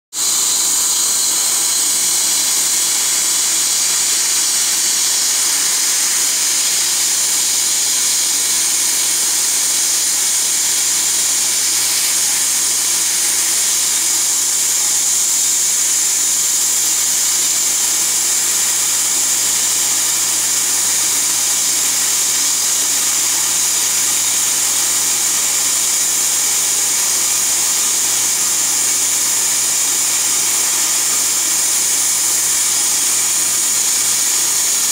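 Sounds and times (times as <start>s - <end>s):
dental equipment hiss and whir: 0.1s - 34.9s.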